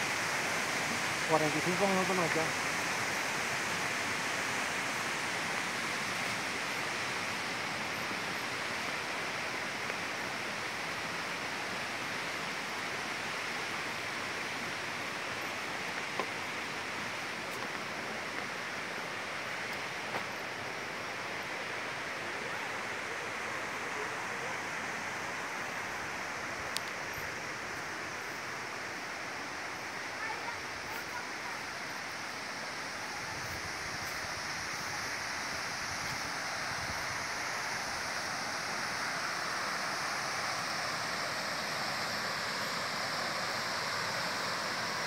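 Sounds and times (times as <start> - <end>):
flowing water rushing: 0.0 - 45.0.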